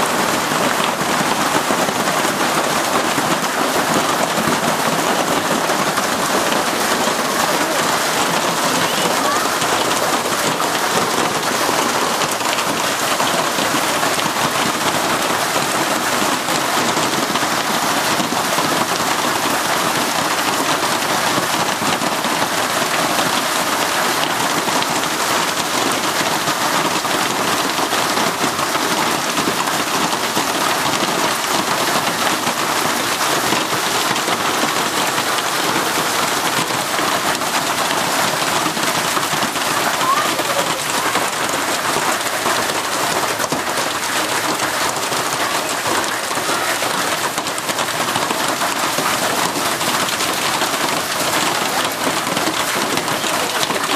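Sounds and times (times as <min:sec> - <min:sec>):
hail and heavy rain on roof: 0:00.0 - 0:53.9.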